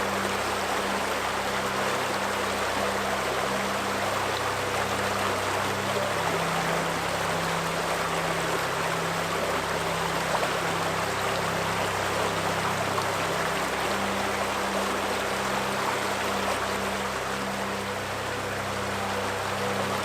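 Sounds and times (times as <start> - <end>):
river water running: 0.0 - 20.0
soft sustained music notes: 0.0 - 20.0.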